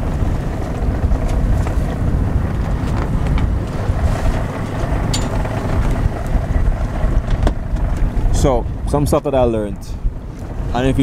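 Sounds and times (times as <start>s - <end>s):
outboard motors running: 0.0s - 11.0s
wind buffeting microphone: 0.0s - 11.0s.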